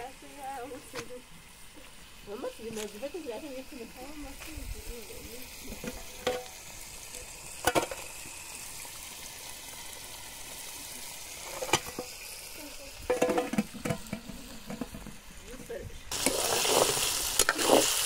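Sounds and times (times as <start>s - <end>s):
potato slices frying in oil: 0.0s - 18.0s.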